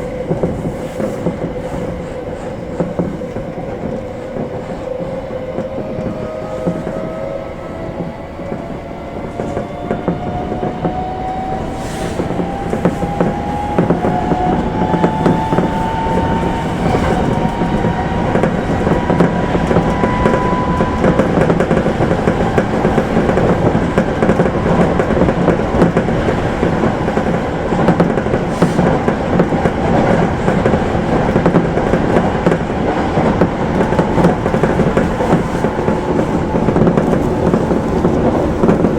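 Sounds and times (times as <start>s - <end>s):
train wheels clicking over rails: 0.0s - 38.9s.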